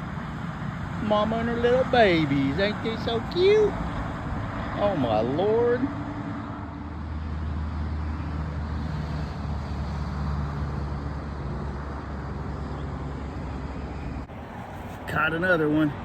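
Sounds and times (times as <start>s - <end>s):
motor traffic rumble: 0.0s - 16.0s
vehicle passing by: 0.0s - 16.0s.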